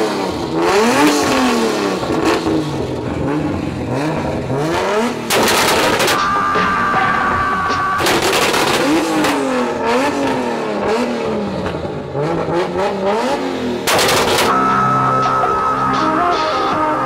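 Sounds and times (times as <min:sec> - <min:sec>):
car engine revving: 0:00.0 - 0:17.0
exhaust crackling and popping: 0:00.3 - 0:14.6.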